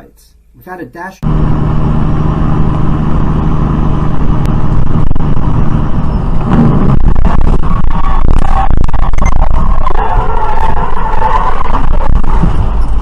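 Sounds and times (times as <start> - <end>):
car engine and road noise: 1.2 - 13.0.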